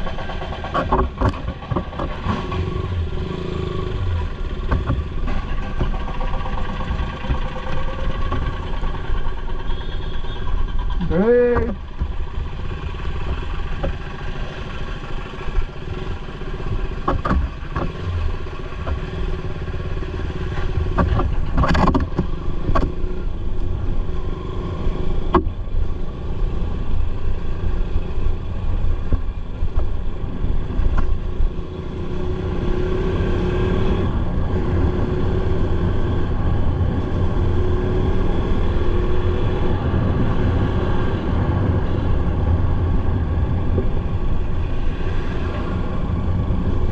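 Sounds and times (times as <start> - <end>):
motorcycle engine running: 0.0 - 46.9
road rumble: 0.0 - 46.9
wind: 0.0 - 46.9.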